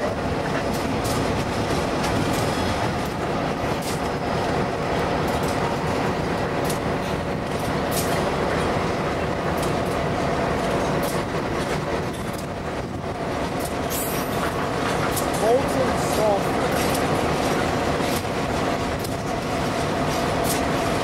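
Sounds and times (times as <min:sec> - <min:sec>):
freight train rumbling on rails: 0:00.0 - 0:21.0
wheels clicking over track joints: 0:00.0 - 0:21.0.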